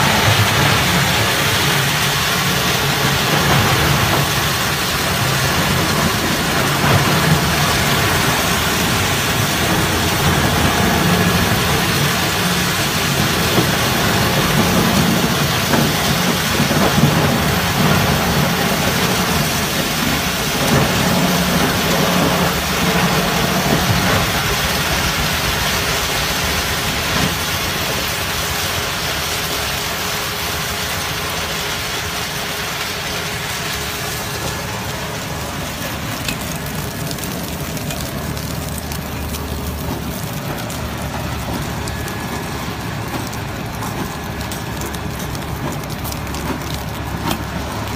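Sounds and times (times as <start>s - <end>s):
heavy machine drone: 0.0s - 47.9s
hiss of wood chips pouring: 0.0s - 47.9s.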